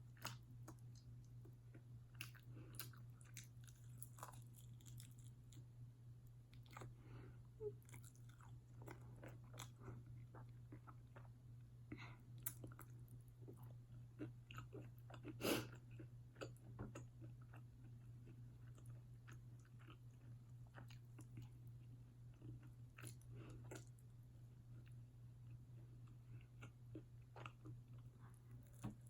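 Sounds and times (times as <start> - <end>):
person chewing chicken wing: 0.1 - 5.6, 7.6 - 11.4, 12.4 - 24.0, 26.0 - 29.0.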